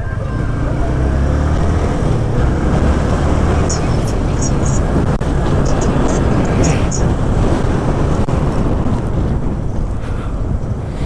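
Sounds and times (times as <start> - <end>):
motorcycle engine running: 0.0 - 10.8
wind rumbling on microphone: 0.0 - 11.0.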